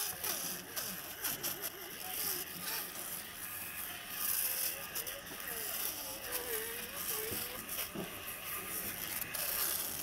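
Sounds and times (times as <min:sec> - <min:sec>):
fish scaler scraping scales: 0:00.0 - 0:10.0.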